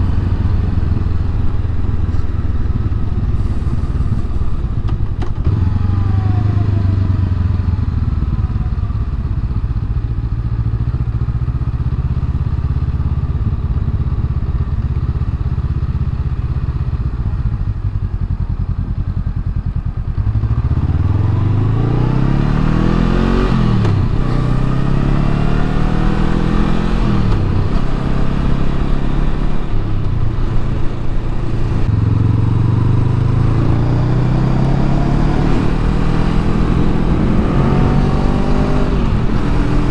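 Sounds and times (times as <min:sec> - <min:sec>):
motorcycle engine accelerating with upshifts: 0:00.0 - 0:39.9.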